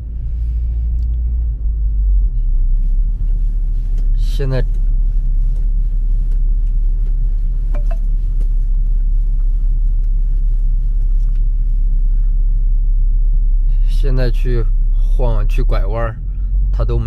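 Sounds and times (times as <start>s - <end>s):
car cabin low rumble: 0.0s - 17.0s.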